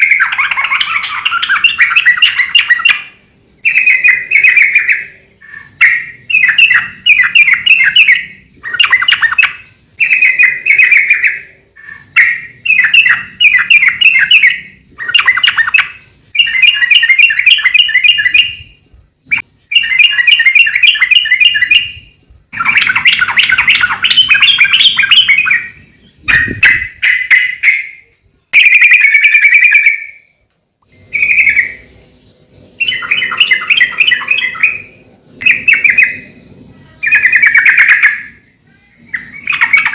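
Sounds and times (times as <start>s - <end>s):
bird singing bubbly phrases: 0.0s - 39.9s.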